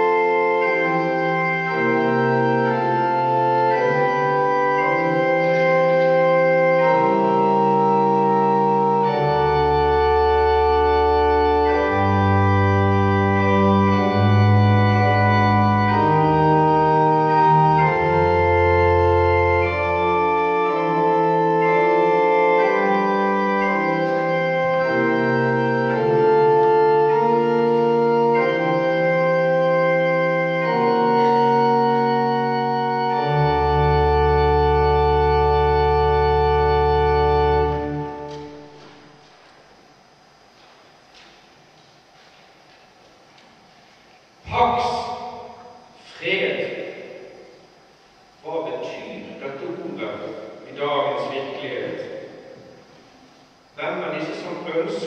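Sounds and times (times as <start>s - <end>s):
pipe organ chords: 0.0s - 55.0s.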